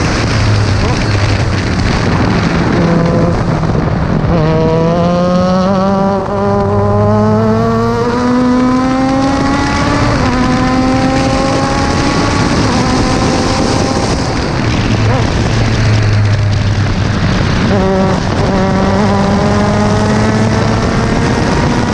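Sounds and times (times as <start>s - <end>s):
race car engine accelerating: 0.0s - 21.9s
wind rush on microphone: 0.0s - 21.9s.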